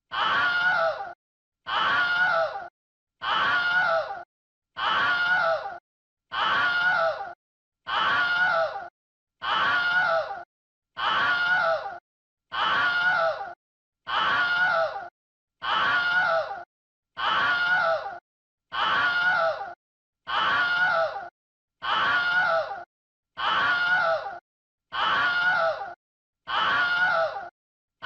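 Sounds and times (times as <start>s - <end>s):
human scream: 0.0s - 27.5s.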